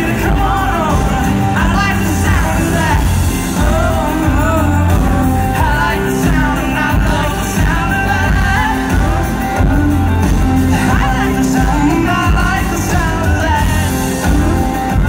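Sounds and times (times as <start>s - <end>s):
live band playing country-pop: 0.0s - 15.0s
male lead vocal singing: 0.0s - 15.0s.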